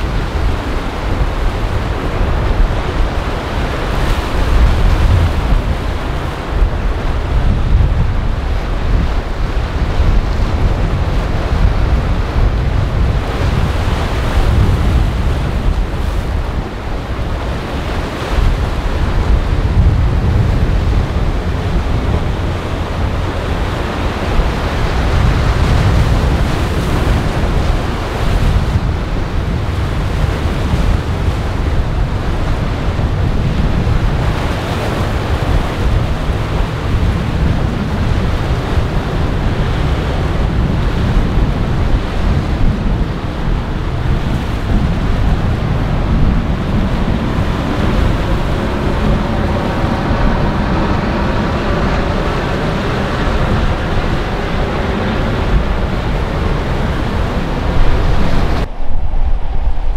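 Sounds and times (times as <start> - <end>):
waves and surf: 0.0 - 59.9
wind buffeting microphone: 0.0 - 59.9.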